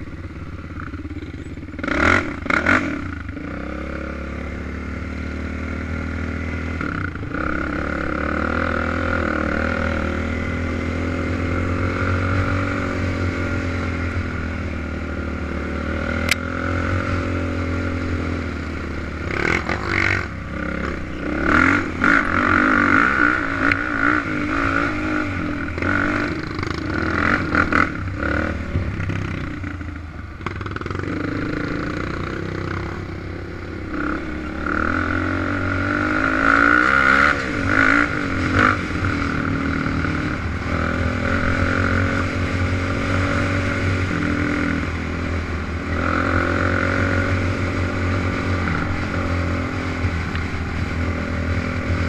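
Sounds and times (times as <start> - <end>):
quad engine revving: 1.7 - 50.4.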